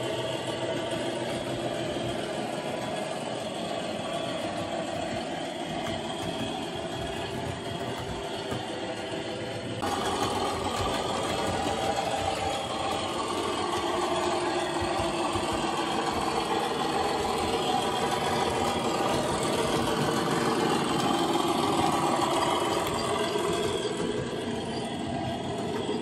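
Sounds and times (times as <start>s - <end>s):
model locomotive diesel engine sound: 0.0s - 26.0s.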